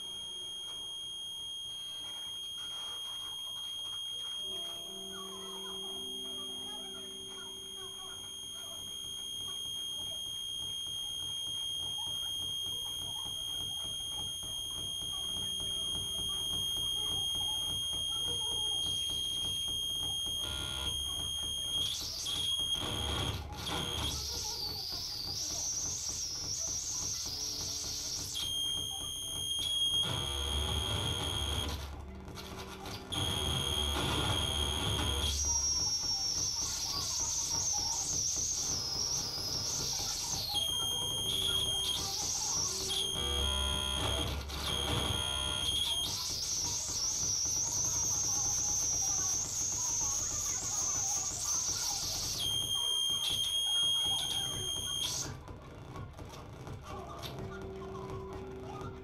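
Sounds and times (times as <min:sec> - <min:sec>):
high-pitched electronic tone: 0:00.0 - 0:55.3
harsh electronic noise: 0:00.0 - 0:59.0.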